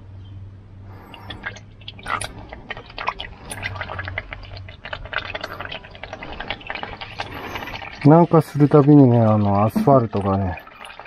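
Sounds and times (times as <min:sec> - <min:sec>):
oil dripping and splashing: 0:00.9 - 0:11.0.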